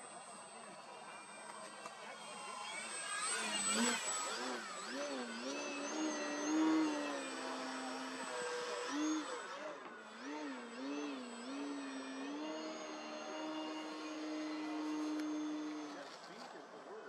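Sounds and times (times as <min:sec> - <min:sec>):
model plane motor droning: 0:00.0 - 0:16.8.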